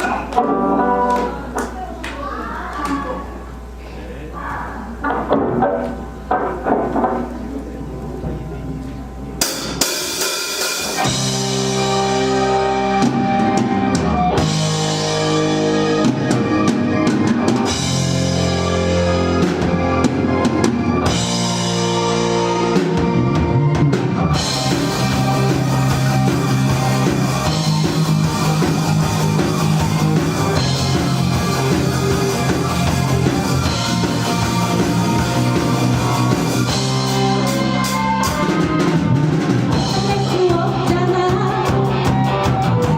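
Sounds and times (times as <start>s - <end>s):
rock band playing: 0.0s - 2.6s, 9.3s - 42.9s.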